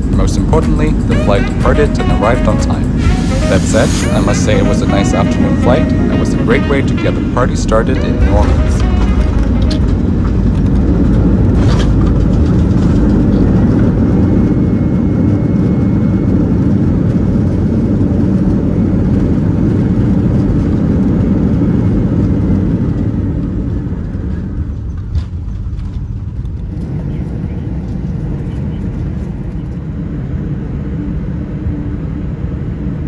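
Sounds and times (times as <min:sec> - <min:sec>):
jet engine rumble in cabin: 0:00.0 - 0:33.0.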